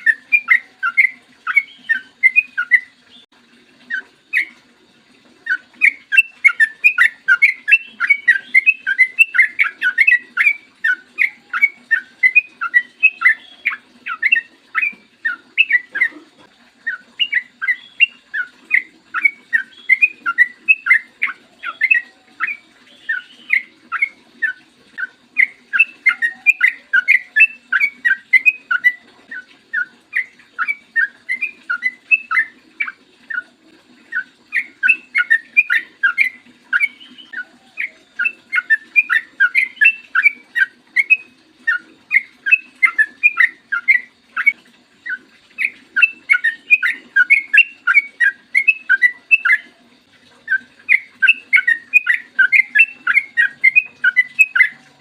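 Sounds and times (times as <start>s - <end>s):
bird singing warbling song: 0.0s - 4.6s, 5.4s - 49.8s, 50.4s - 55.0s.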